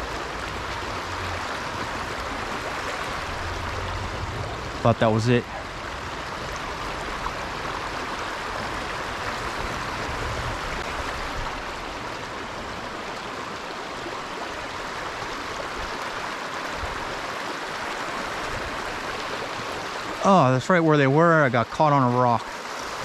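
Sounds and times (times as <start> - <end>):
stream water flowing: 0.0 - 23.0.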